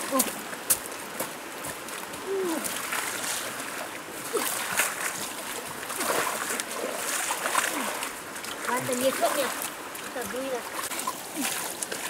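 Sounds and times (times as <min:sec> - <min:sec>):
river rushing: 0:00.0 - 0:12.0
hands splashing in muddy water: 0:02.2 - 0:12.0.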